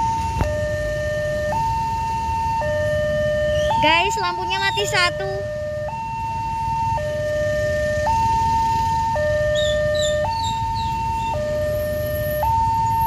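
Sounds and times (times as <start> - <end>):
low traffic rumble: 0.0 - 13.0
two-tone crossing alarm: 0.0 - 13.0.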